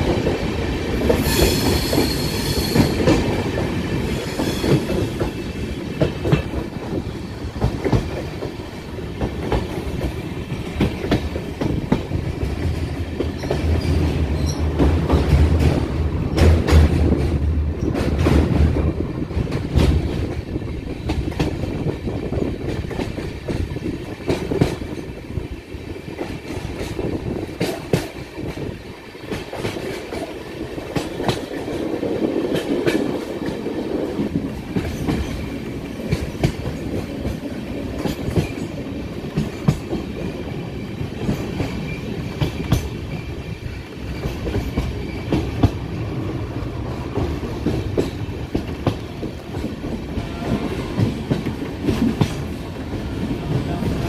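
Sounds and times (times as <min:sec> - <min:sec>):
continuous train rumble: 0:00.0 - 0:54.0
train wheels clattering over rail joints: 0:01.0 - 0:25.3, 0:26.0 - 0:45.9, 0:47.0 - 0:54.0.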